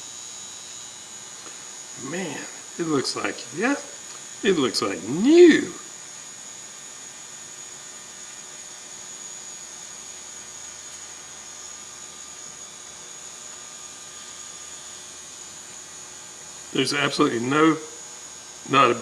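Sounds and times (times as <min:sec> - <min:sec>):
background hiss and hum: 0:00.0 - 0:19.0.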